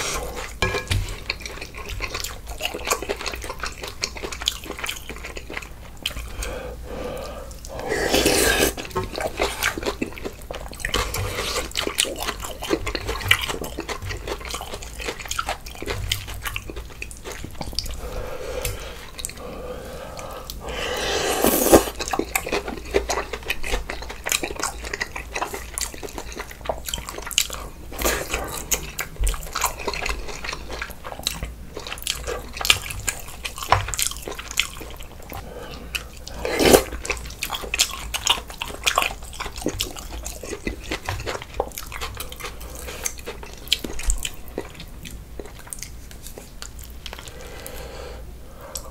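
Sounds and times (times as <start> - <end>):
wet chewing with mouth clicks: 0.0 - 19.5, 21.4 - 47.9.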